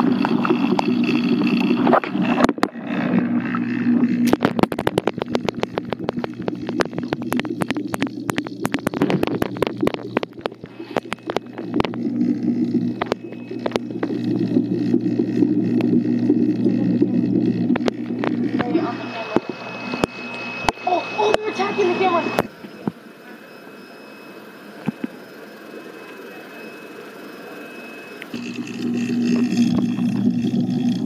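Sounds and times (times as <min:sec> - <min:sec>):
bubbling water: 0:00.0 - 0:21.6, 0:27.3 - 0:31.0
aquarium pumps humming: 0:00.0 - 0:31.0.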